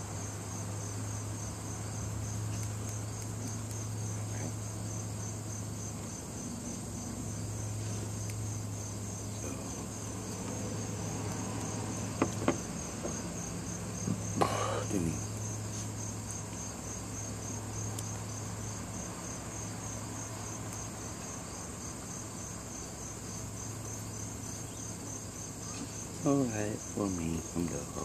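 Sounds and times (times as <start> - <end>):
crickets chirping: 0.0 - 28.0
steady low hum: 0.0 - 28.0
rustle: 0.1 - 14.4, 15.1 - 28.0.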